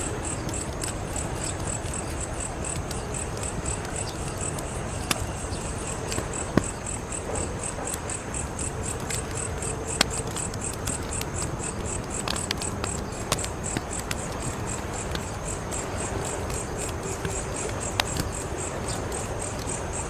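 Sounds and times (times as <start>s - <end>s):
crickets chirping: 0.0s - 20.0s
wood fire crackling: 0.0s - 20.0s
fire pops: 0.3s - 18.6s.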